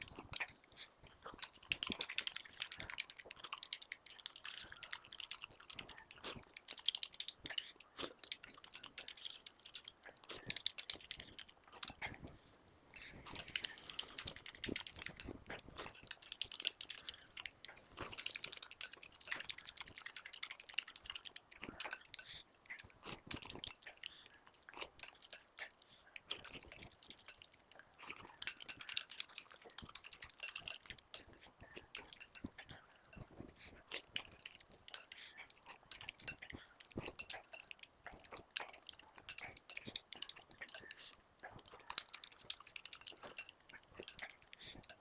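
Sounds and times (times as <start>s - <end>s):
chewing with wet mouth sounds: 0.0s - 45.0s.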